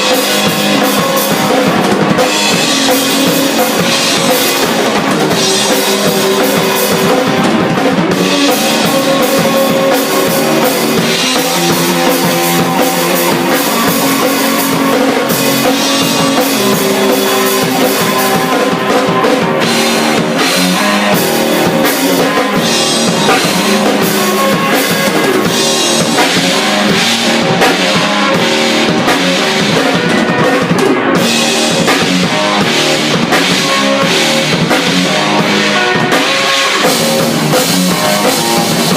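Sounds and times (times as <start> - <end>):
electric guitar notes: 0.0 - 38.9
rock drumming: 0.0 - 38.9.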